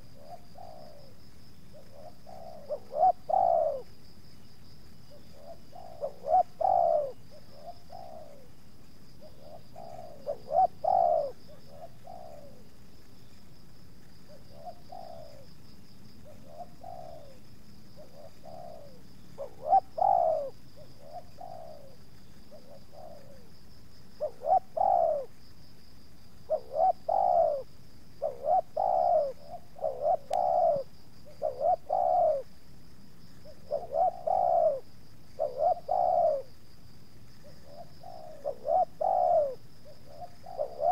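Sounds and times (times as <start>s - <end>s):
doves cooing: 0.0s - 4.2s, 5.0s - 13.4s, 14.0s - 25.4s, 26.2s - 32.6s, 33.3s - 36.7s, 37.3s - 40.9s.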